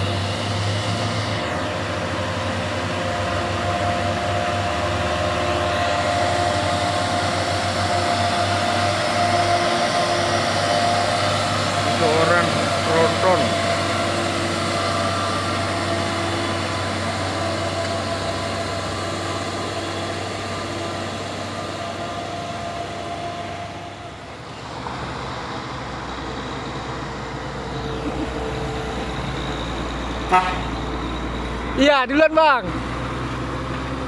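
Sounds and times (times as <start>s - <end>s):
deeper truck diesel approaching: 0.0s - 34.0s
truck diesel engine passing: 0.0s - 34.0s.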